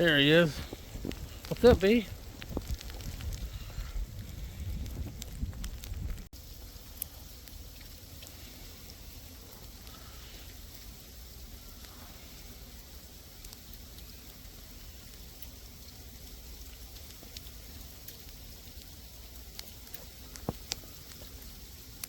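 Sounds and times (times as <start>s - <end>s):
ice pellets ticking on surfaces: 0.0s - 22.0s.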